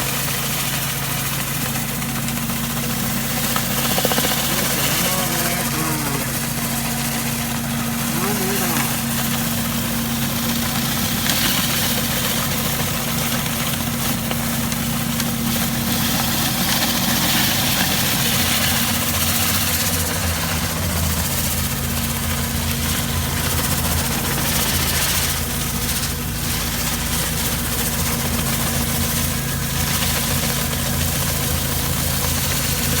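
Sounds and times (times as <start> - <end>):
pressure washer engine hum: 0.0 - 33.0.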